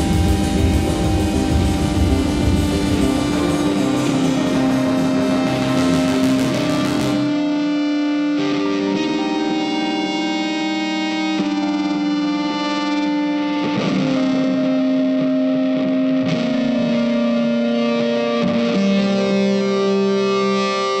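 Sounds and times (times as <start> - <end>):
music of long held notes: 0.0 - 21.0.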